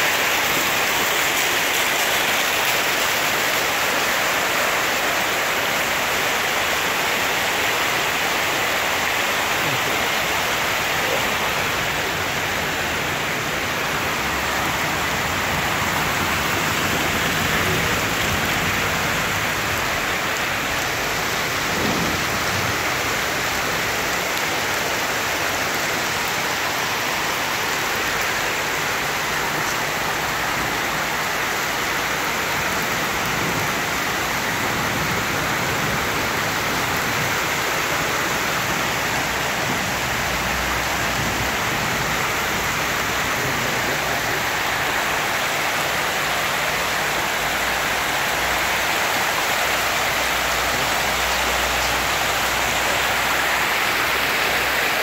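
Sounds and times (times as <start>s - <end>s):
heavy rain on a flooded street: 0.0s - 55.0s.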